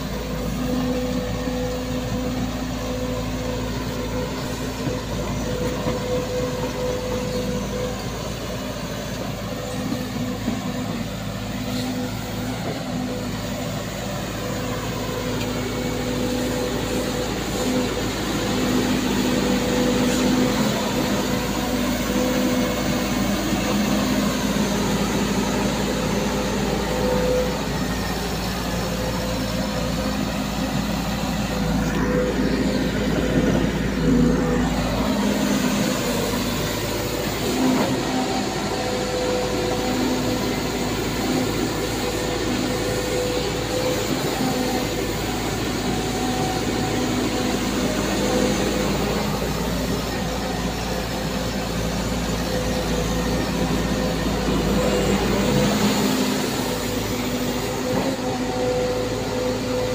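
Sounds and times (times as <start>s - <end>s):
excavator diesel engine whining: 0.0s - 59.9s.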